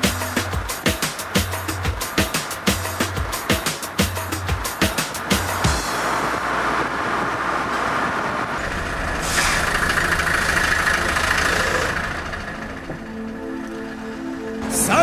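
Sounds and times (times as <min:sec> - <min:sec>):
traffic hiss: 0:00.0 - 0:13.3
traffic engine rumble: 0:00.0 - 0:15.0.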